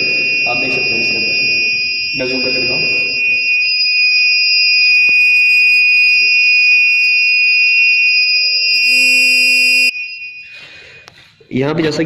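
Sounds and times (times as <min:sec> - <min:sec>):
high-pitched electronic buzzer tone: 0:00.0 - 0:10.8.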